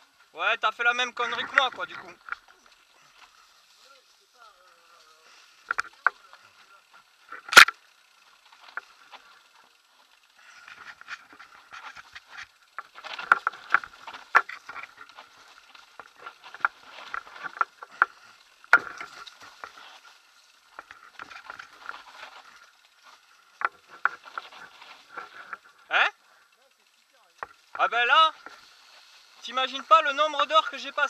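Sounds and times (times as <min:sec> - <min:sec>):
bike clattering over stones: 0:00.0 - 0:31.0
tyres rustling through dry leaves: 0:00.0 - 0:31.0.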